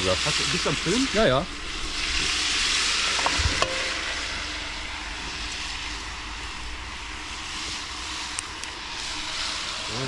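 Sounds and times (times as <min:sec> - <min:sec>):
food sizzling in a kettle: 0:00.0 - 0:10.0.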